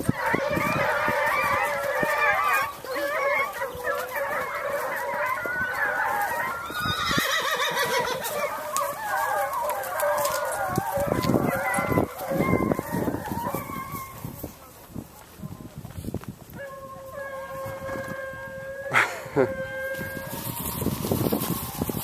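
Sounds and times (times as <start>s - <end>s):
hounds baying: 0.0s - 14.6s, 16.5s - 22.0s.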